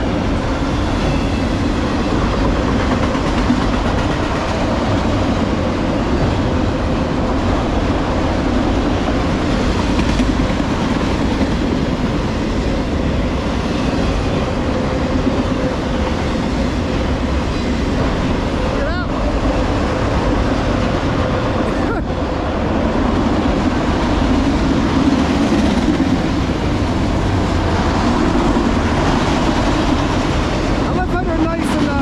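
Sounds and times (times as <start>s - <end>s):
freight cars clattering on rails: 0.0s - 32.0s.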